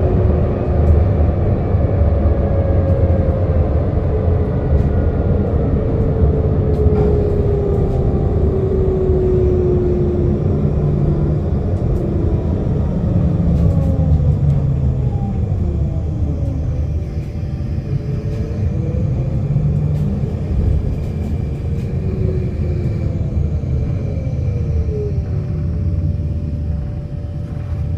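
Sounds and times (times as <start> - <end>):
bus rumbling: 0.0 - 27.9.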